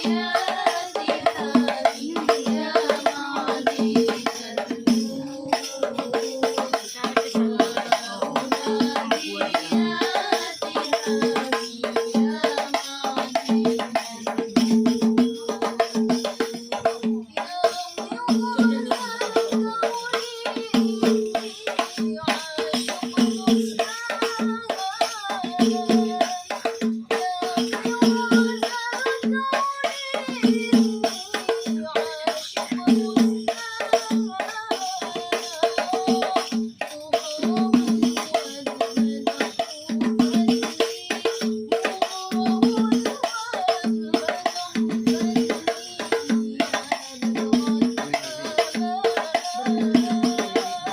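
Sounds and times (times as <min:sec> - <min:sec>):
frame drums with jingles: 0:00.0 - 0:50.9.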